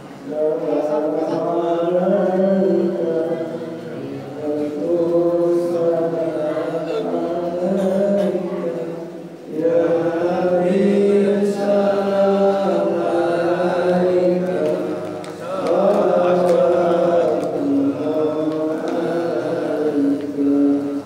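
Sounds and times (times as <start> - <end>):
man chanting into microphone: 0.2 - 21.0.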